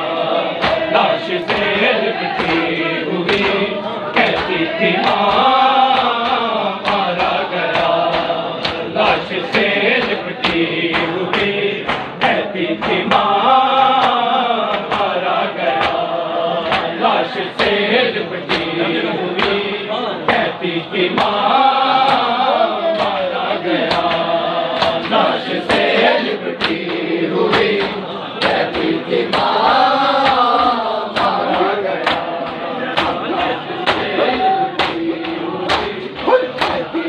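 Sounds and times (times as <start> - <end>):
men chanting a lament: 0.0 - 37.0
hands slapping on chests: 0.5 - 37.0.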